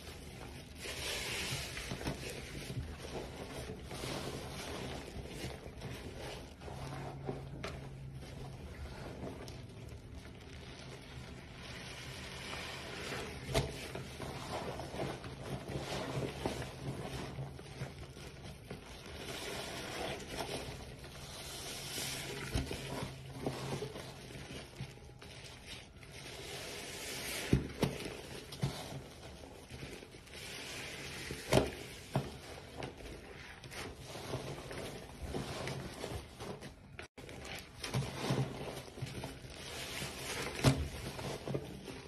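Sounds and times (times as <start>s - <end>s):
wet squelching of soapy sponge: 0.0s - 42.0s.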